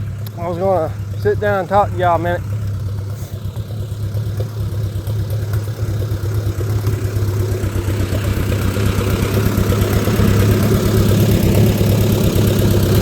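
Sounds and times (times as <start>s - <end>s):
engine running hum: 0.0s - 13.0s.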